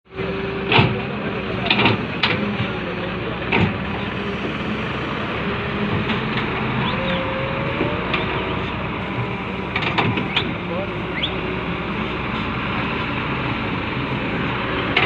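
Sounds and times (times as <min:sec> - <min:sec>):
construction machinery engine hum: 0:00.0 - 0:15.0.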